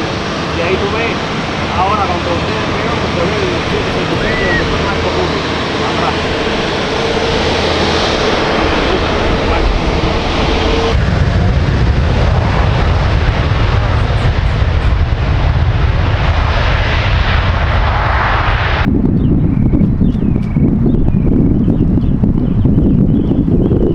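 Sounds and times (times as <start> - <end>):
jet engines at takeoff: 0.0 - 23.9.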